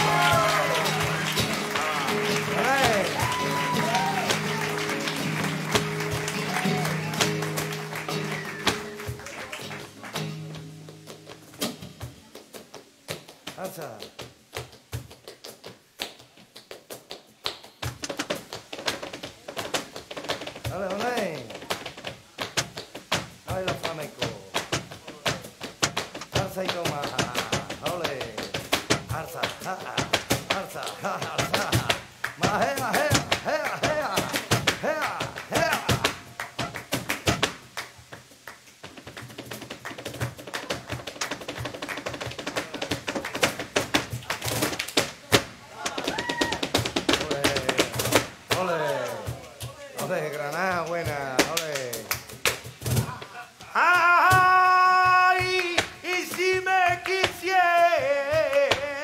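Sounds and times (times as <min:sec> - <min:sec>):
rhythmic handclaps: 0:00.0 - 0:52.8, 0:53.6 - 0:59.0
dance shoes stamping on stage: 0:00.0 - 0:59.0.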